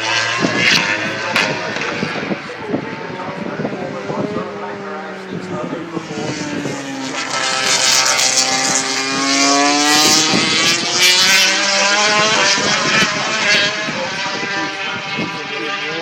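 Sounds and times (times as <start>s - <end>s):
racing motorcycle engines passing: 0.0s - 16.0s.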